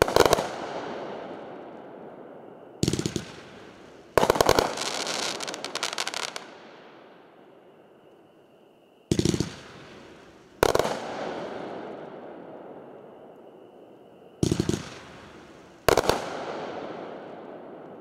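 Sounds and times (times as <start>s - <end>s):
fireworks bangs with echo: 0.0s - 7.3s, 9.1s - 12.8s, 14.4s - 18.0s.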